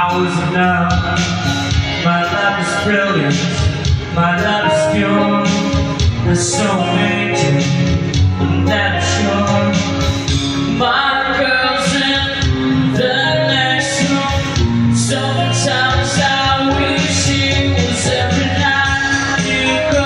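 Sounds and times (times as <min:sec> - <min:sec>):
band playing slow song: 0:00.0 - 0:20.0
person singing: 0:00.0 - 0:20.0.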